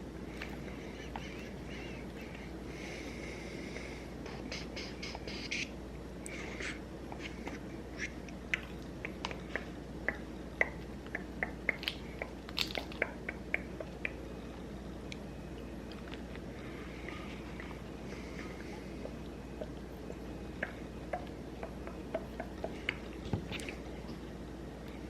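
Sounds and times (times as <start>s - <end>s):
faint steady background noise: 0.0s - 25.0s.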